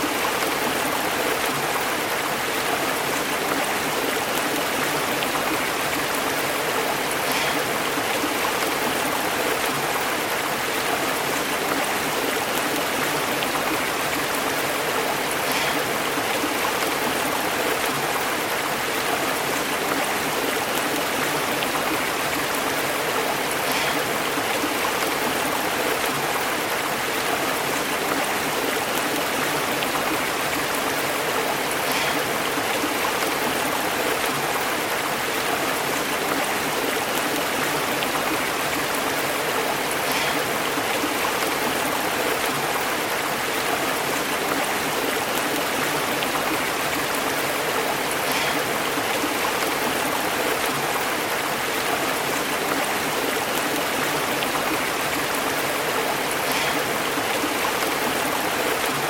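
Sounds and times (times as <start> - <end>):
stream burbling over rocks: 0.0 - 59.0.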